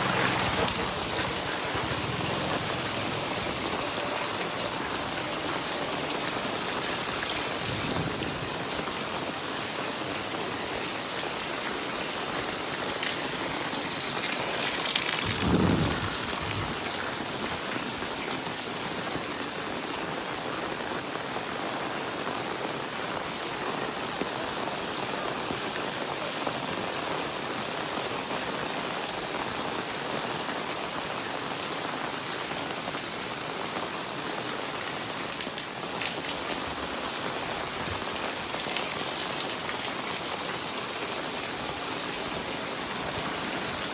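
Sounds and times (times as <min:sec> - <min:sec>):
rain pattering on surfaces: 0:00.0 - 0:43.9.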